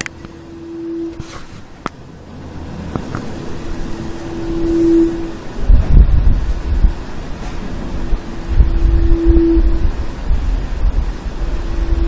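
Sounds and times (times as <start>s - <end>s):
steady droning tone: 0.0s - 12.0s
wind buffeting microphone: 0.0s - 12.0s.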